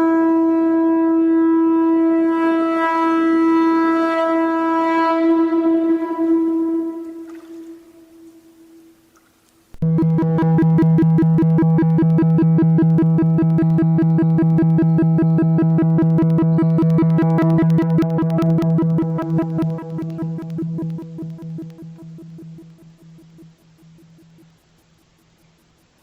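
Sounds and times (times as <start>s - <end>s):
low drone with pulsing flutter: 0.0s - 8.7s, 9.8s - 26.0s.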